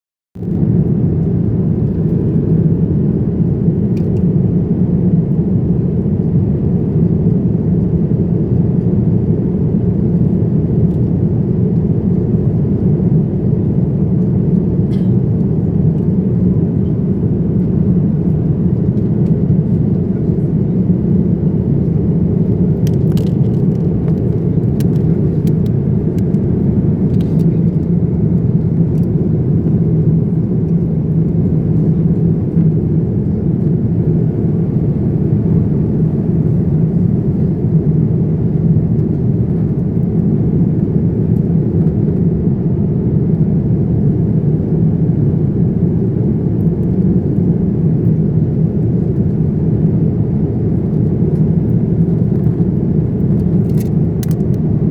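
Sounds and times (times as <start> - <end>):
airliner cabin drone: 0.4 - 54.9.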